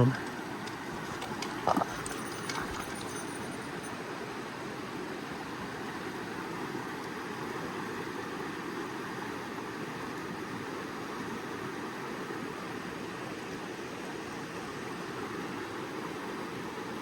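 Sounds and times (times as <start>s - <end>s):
creek water flowing over rocks: 0.0s - 17.0s.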